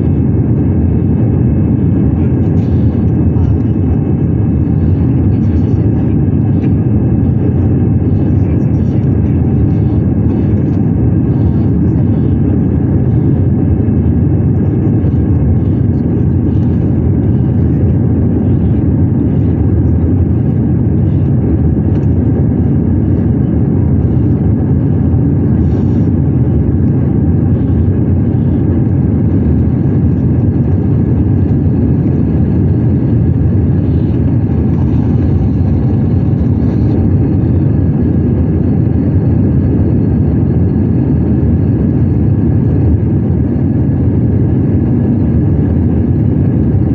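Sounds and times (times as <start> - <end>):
airflow over fuselage: 0.0 - 46.9
jet engines rumbling: 0.0 - 46.9.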